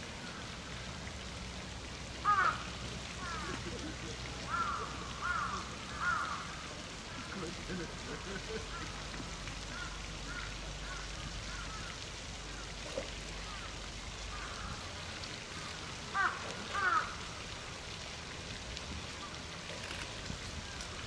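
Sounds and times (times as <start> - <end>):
fountain water falling: 0.0 - 21.0.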